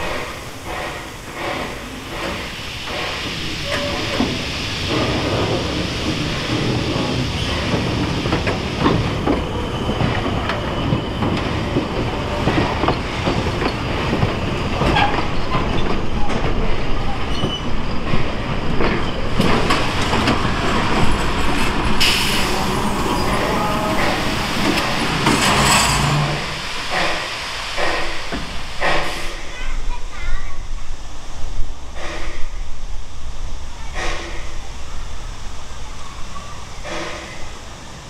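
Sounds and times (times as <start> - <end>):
steam train rumbling on rails: 0.0 - 38.0.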